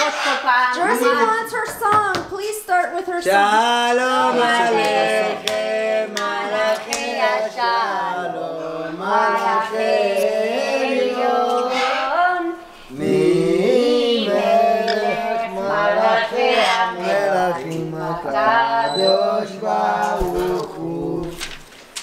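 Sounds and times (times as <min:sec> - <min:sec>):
people singing together: 0:03.2 - 0:21.7.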